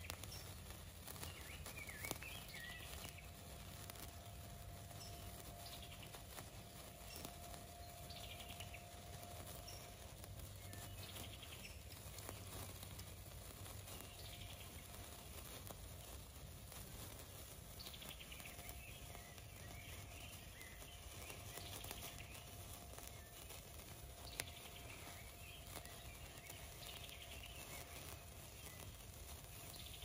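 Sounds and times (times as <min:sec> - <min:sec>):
sparkler fizzing: 0:00.0 - 0:30.0.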